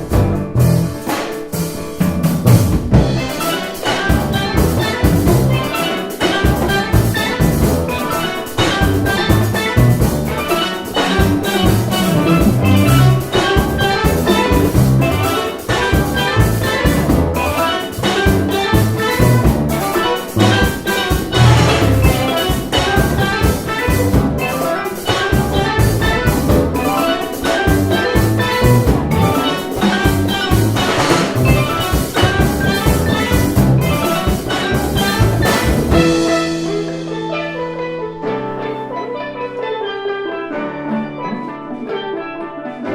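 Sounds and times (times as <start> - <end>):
drum kit: 0.0 - 39.7
steel pan melody: 3.2 - 39.2.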